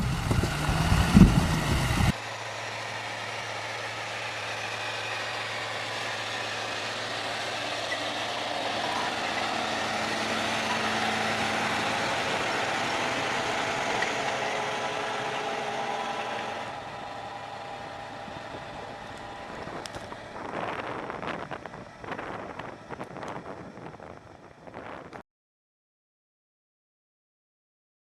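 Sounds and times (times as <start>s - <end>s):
broad mechanical noise: 0.0s - 25.2s
heavy machine engine running: 0.0s - 25.2s.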